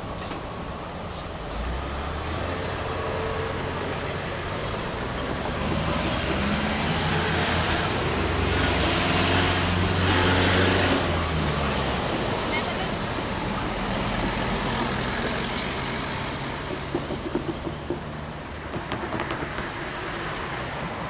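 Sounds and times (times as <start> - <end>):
cars driving past: 1.3 - 21.0.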